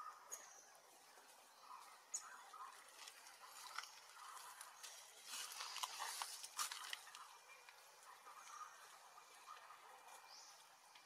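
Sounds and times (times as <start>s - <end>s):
rustling of dry leaves: 0.8s - 11.0s.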